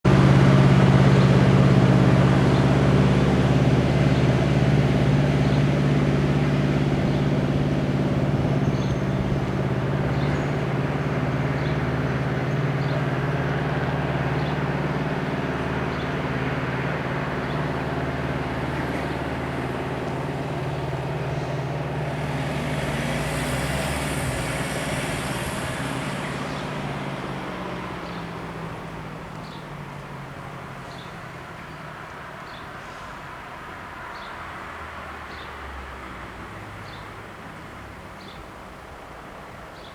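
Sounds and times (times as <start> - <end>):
train diesel engine droning: 0.1 - 32.4.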